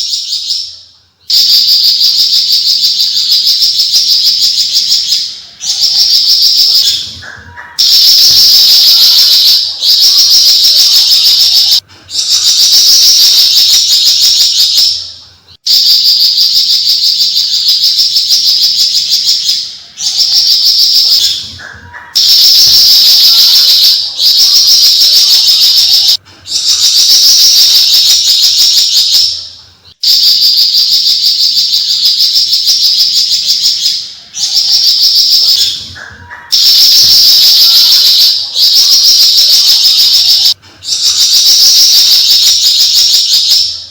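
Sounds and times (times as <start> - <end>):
bird chattering song: 0.0 - 43.9.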